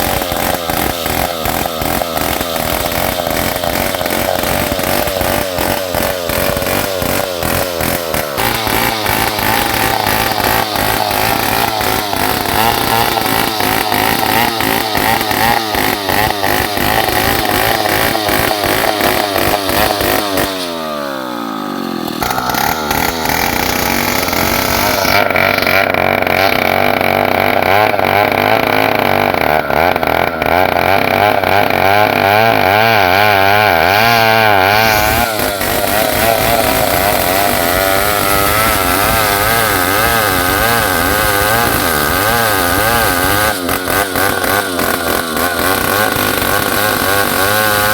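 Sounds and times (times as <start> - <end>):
chainsaw cutting through log: 0.0 - 47.9.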